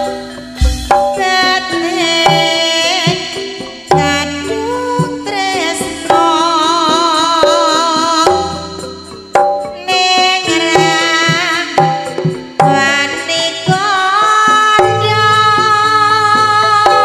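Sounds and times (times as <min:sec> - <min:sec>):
hand drum strokes: 0:00.0 - 0:17.0
wavering melody with vibrato: 0:00.0 - 0:17.0.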